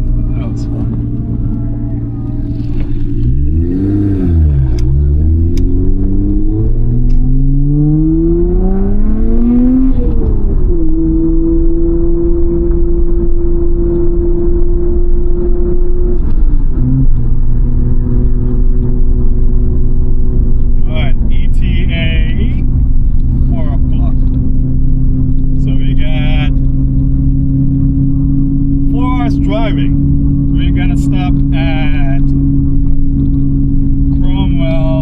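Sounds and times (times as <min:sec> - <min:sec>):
car engine pulling away: 0:00.0 - 0:35.0.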